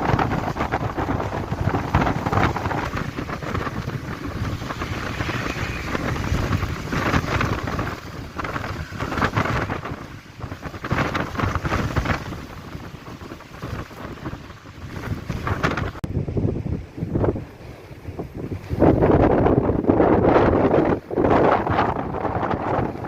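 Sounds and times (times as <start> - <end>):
gusty wind buffeting microphone: 0.0 - 23.0.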